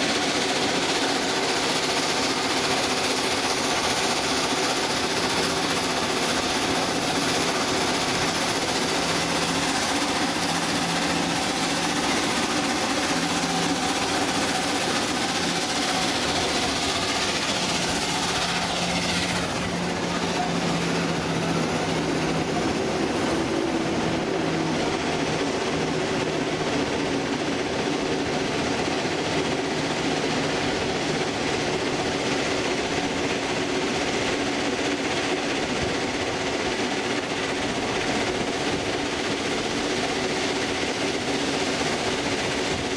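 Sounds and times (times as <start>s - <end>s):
train running on rails: 0.0s - 42.9s.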